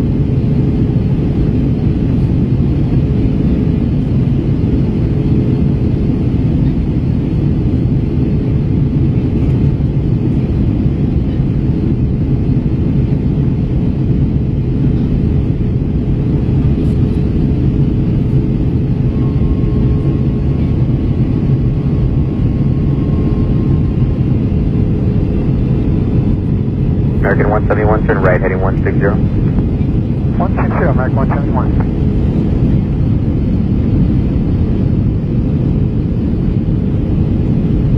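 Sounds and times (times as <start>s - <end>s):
airliner cabin engine drone: 0.0s - 37.9s.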